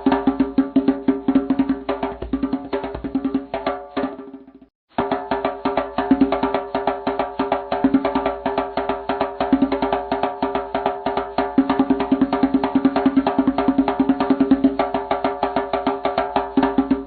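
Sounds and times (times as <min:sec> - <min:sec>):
fast clicking wood block beat: 0:00.0 - 0:04.2, 0:05.0 - 0:17.0.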